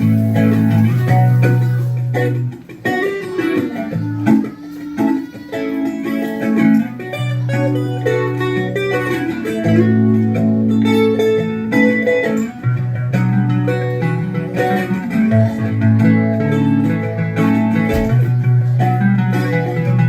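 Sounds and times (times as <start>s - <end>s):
plucked guitar notes: 0.0s - 20.0s.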